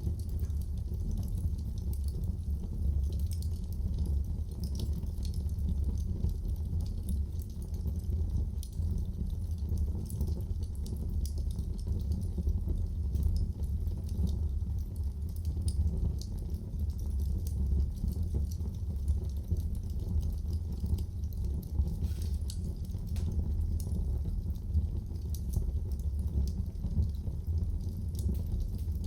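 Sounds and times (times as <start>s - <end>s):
wood fire burning: 0.0s - 29.0s.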